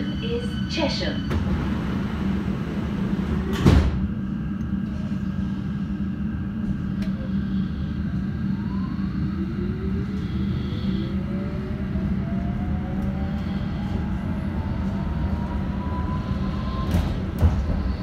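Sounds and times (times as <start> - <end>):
train hum: 0.0 - 18.0.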